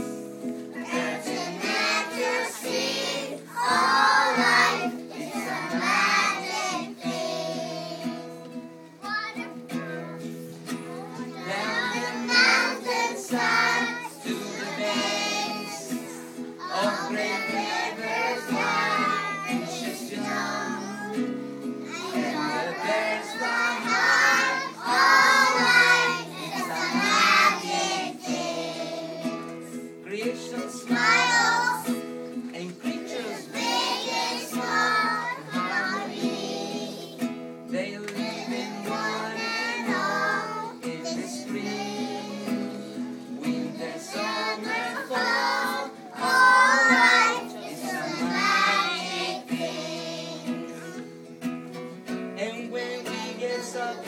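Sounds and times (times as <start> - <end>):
children singing: 0.0 - 51.3, 52.4 - 54.0.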